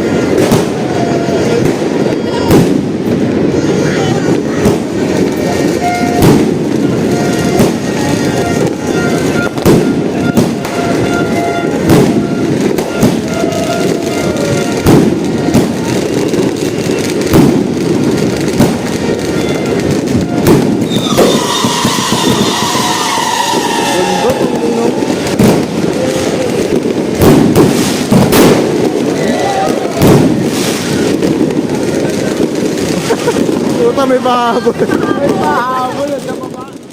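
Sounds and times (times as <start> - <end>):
fireworks bangs and crackle: 0.0 - 36.9.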